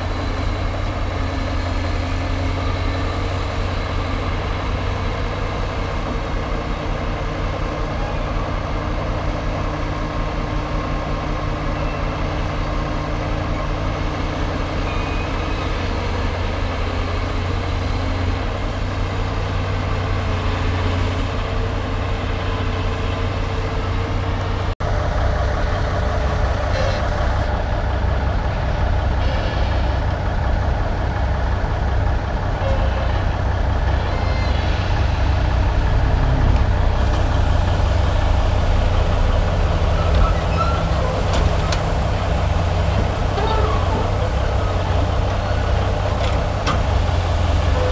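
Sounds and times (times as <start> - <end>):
heavy diesel engines idling: 0.0 - 47.9.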